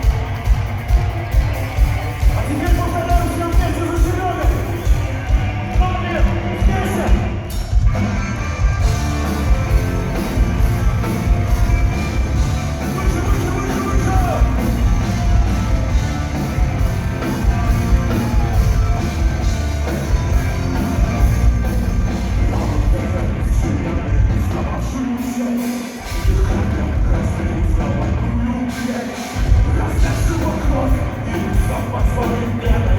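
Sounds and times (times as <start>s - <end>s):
heavy rock band playing: 0.0s - 32.9s
loud driving drums: 0.0s - 32.9s.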